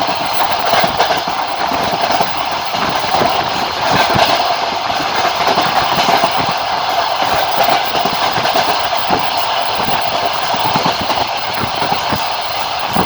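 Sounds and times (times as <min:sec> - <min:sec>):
train rolling rumble: 0:00.0 - 0:13.0
wheels clattering over rail joints: 0:00.0 - 0:13.0.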